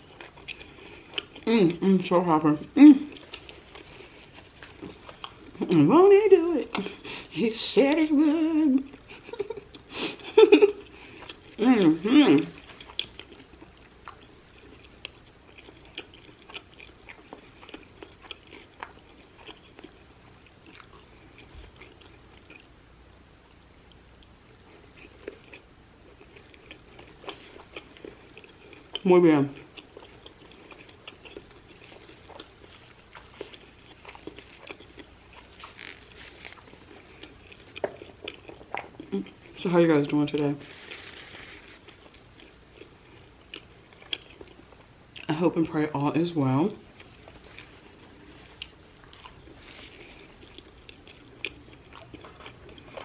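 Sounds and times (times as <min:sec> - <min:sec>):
person chewing food: 0:00.0 - 0:01.8, 0:02.9 - 0:05.9, 0:08.9 - 0:11.6, 0:12.4 - 0:23.2, 0:23.8 - 0:45.4, 0:46.7 - 0:53.0.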